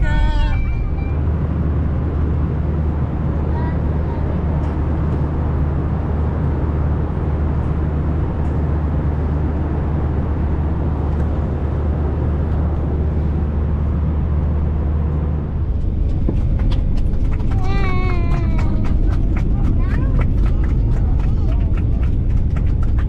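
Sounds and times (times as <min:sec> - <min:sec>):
vehicle cabin drone: 0:00.0 - 0:23.0.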